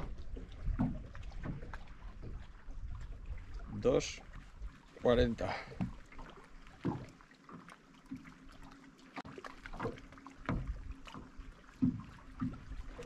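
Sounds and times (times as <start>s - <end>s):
water splashing and lapping: 0.0s - 13.0s.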